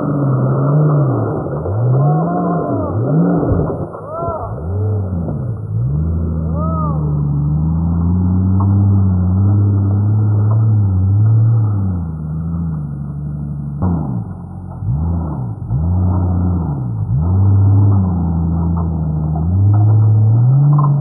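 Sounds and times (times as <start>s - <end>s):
engine pulling under load: 0.0s - 21.0s
engine revving in quick blips: 0.0s - 21.0s.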